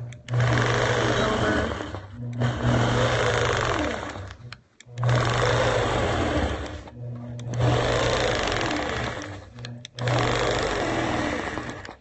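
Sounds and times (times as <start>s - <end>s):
sewing machine stitching: 0.0s - 12.0s.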